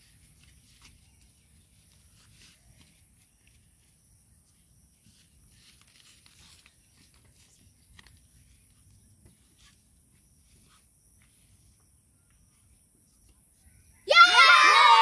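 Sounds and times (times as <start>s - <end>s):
steady high-pitched hiss: 0.0s - 13.9s.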